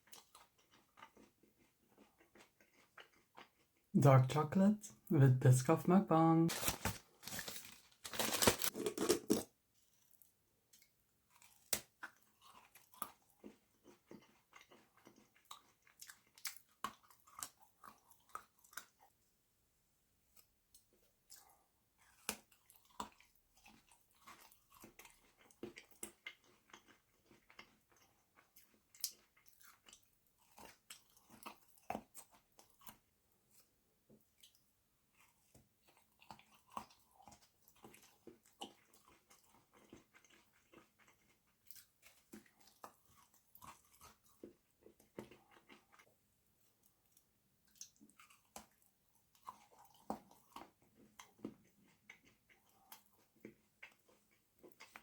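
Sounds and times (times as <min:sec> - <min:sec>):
chewing and crunching chocolate: 0:00.0 - 0:04.3, 0:05.6 - 0:19.4, 0:20.1 - 0:55.0.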